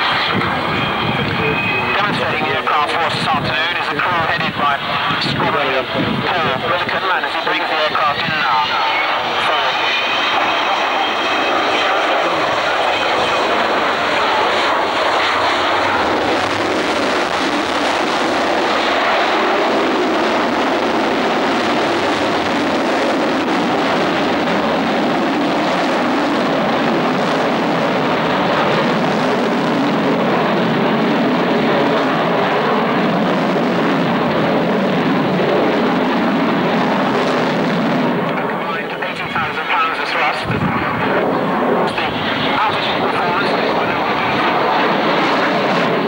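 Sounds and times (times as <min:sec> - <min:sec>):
high engine whine: 0:00.0 - 0:46.0
jet engines roaring: 0:00.0 - 0:46.0.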